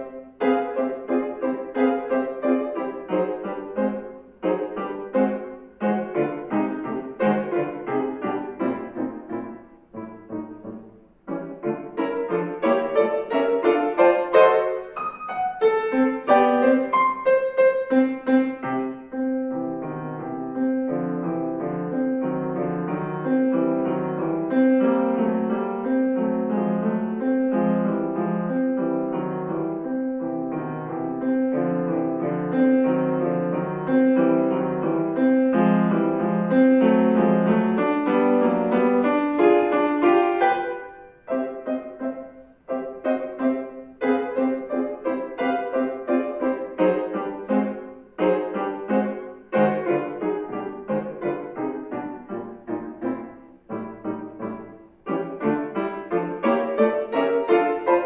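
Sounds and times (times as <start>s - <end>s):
piano playing classical piece: 0.0s - 58.0s.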